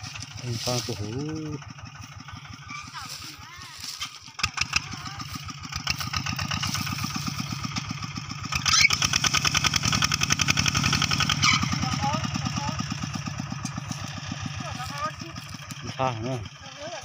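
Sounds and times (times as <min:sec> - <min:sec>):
tractor engine chugging: 0:00.0 - 0:17.0.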